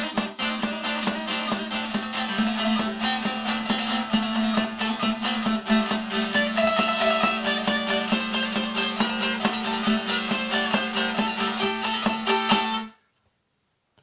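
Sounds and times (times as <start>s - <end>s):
plucked lute melody with drone: 0.0s - 13.0s.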